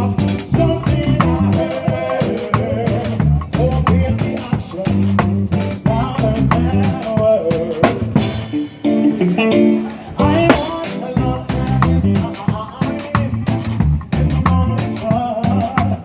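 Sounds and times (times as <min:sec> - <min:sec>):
bass guitar: 0:00.0 - 0:16.0
drum kit with cymbal hits: 0:00.0 - 0:16.0
electric guitar: 0:00.0 - 0:16.0.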